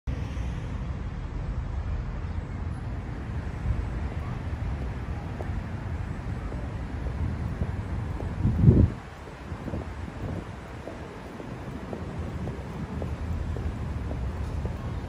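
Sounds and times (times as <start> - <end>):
faint street ambience: 0.1 - 15.0
wind buffeting microphone: 0.2 - 15.0.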